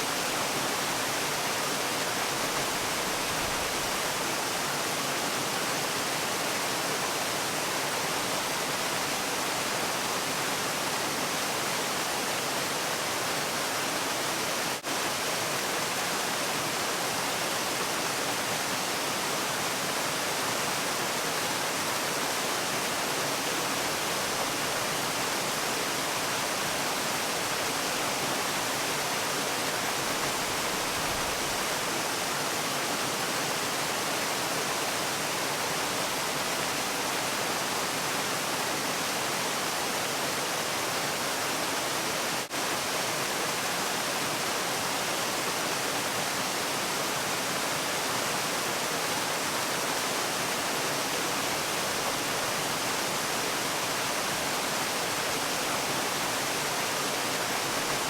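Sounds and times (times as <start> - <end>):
falling water rushing: 0.0 - 58.0.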